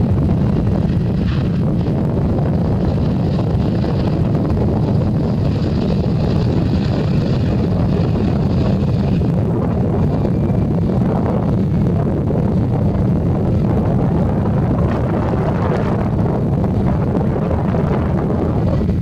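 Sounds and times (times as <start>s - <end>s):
jet engine whine and rumble: 0.0s - 19.0s
wind buffeting microphone: 0.0s - 19.0s.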